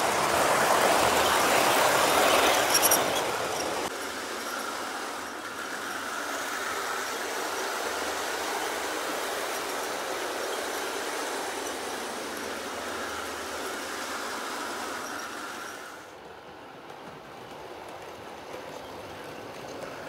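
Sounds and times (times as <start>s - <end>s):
model train running on rails: 0.0s - 20.0s.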